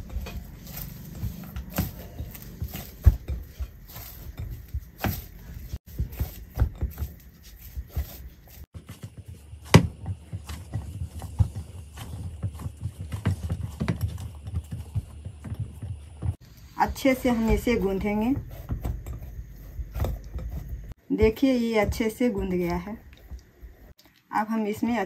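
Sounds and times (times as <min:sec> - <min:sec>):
hands kneading dough: 0:00.0 - 0:25.0.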